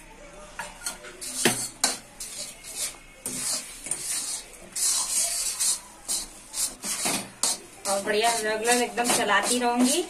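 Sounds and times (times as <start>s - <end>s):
spatula clacking against pan: 0.8s - 10.0s
spatula scraping thick batter: 0.8s - 10.0s.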